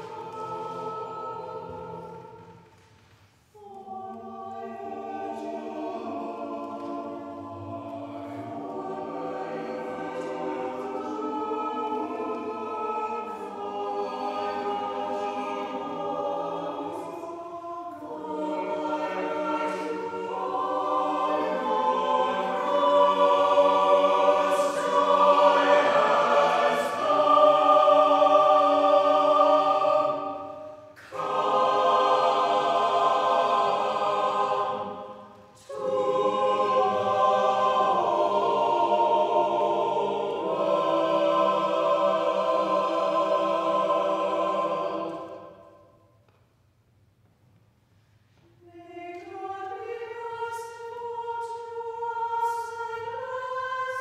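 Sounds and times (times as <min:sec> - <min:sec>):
choir singing a cappella: 0:00.0 - 0:46.3, 0:48.2 - 0:54.0.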